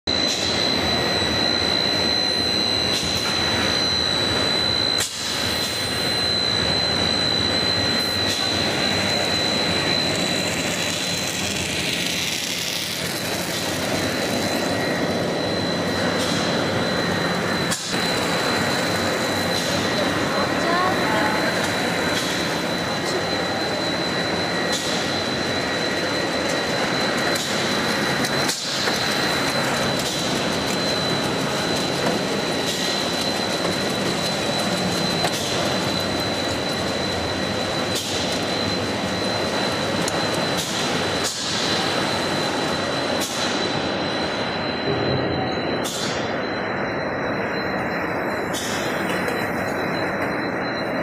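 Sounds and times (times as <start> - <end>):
high-pitched machine whine: 0.0 - 51.0
production line machinery: 0.1 - 51.0.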